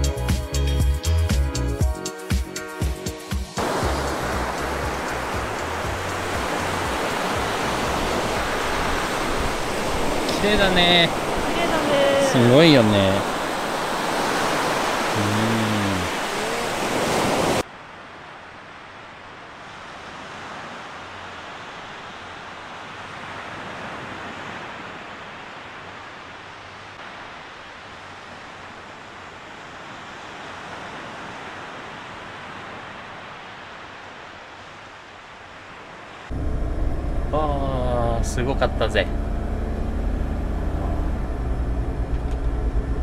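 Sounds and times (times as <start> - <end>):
small waves washing on beach: 3.6 - 39.0.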